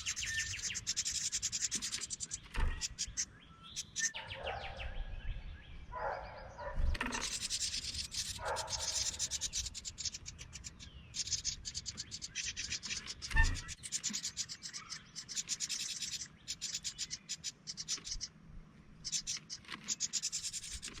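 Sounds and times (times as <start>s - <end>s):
nestlings begging calls: 0.0s - 5.1s, 6.2s - 18.3s, 19.0s - 21.0s.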